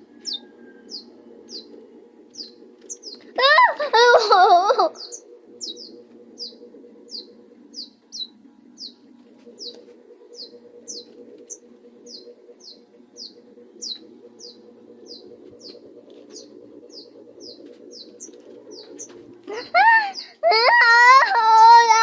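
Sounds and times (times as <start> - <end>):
steady low hum: 0.0 - 22.0
small bird chirping: 0.1 - 22.0.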